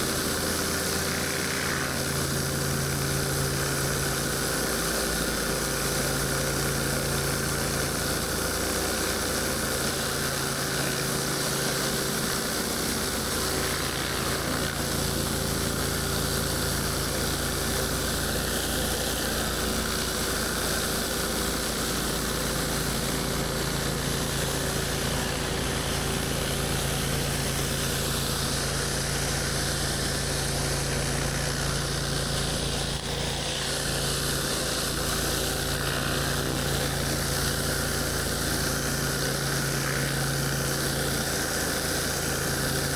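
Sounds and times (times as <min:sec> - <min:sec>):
high-pressure water spray hiss: 0:00.0 - 0:23.2, 0:24.2 - 0:42.9
pressure washer engine running: 0:00.0 - 0:42.9.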